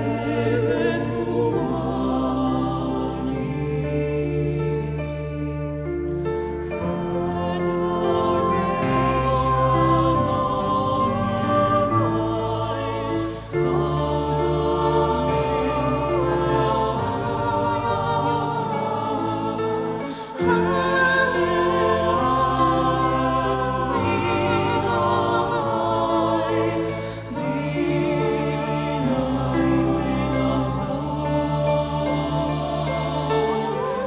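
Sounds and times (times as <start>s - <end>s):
choir singing sacred piece: 0.0s - 34.0s.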